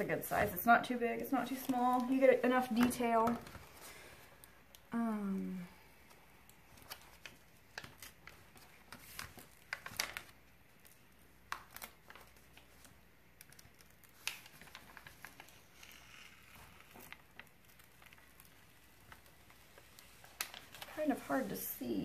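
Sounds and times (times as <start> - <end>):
stiff paper crinkling: 0.0 - 4.9, 5.9 - 22.0.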